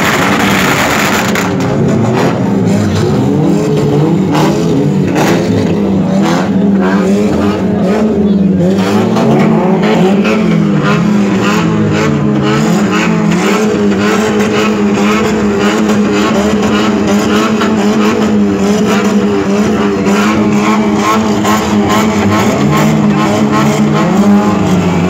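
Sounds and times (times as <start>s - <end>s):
engine at high revs: 0.0s - 25.0s.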